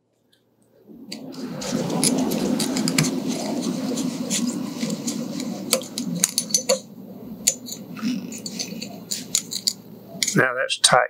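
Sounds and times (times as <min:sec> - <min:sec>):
low rustling: 0:00.8 - 0:10.4.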